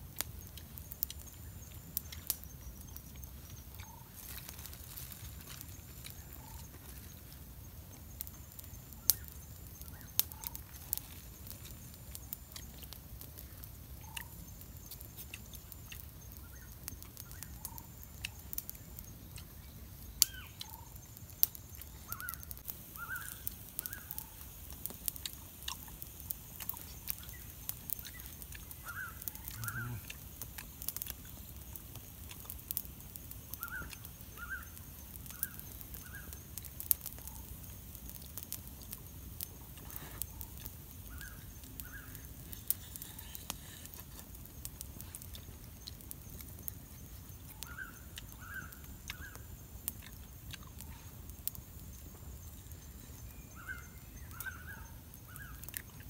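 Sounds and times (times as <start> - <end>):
campfire crackling and popping: 0.0 - 56.0
small birds chirping: 0.1 - 56.0.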